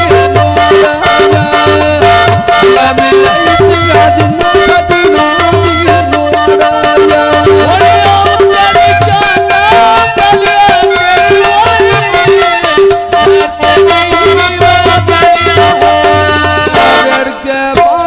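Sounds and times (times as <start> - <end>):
folk music with fast drums: 0.0 - 18.0.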